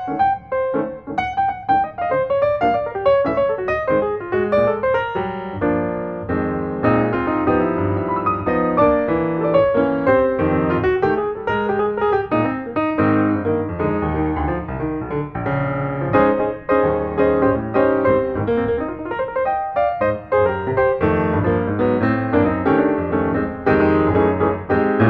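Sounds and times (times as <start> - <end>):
piano playing busy run: 0.0 - 25.0.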